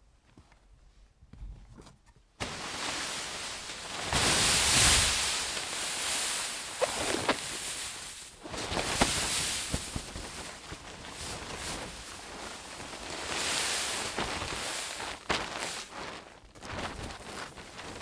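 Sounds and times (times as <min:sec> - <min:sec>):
snow sliding down tent fabric: 0:02.4 - 0:18.0.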